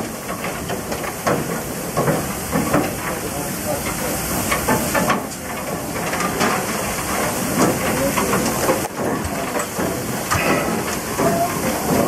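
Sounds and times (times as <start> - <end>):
steam hissing and crackling: 0.0 - 12.0
water hose spraying: 0.0 - 12.0.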